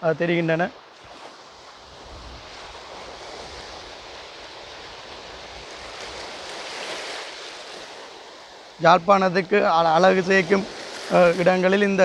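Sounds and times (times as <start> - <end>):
waves breaking on shore: 0.0 - 12.0
wind gusting on microphone: 0.0 - 12.0.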